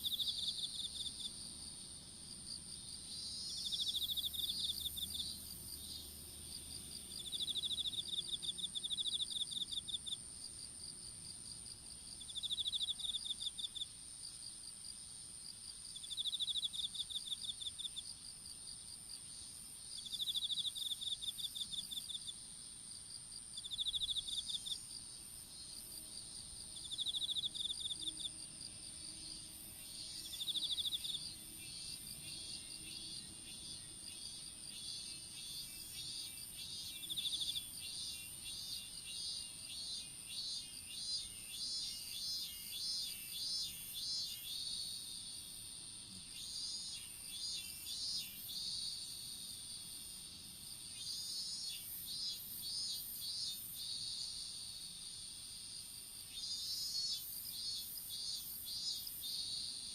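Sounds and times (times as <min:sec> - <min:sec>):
insect steady high-pitched trill: 0:00.0 - 0:59.9
insects rhythmic chirps: 0:00.0 - 0:59.9.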